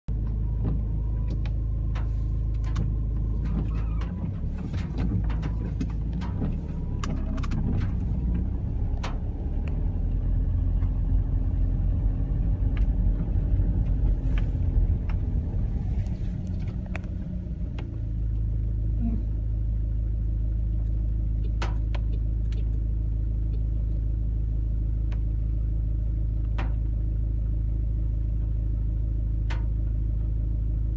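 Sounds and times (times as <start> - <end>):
car engine and road rumble: 0.0 - 30.9.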